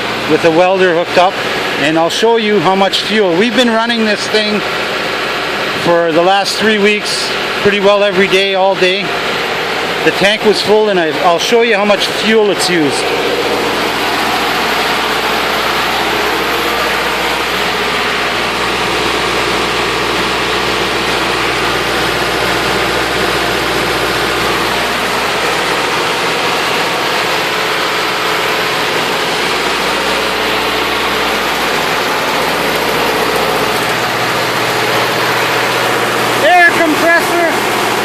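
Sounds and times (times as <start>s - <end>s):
diesel generator engine running: 0.0s - 38.0s.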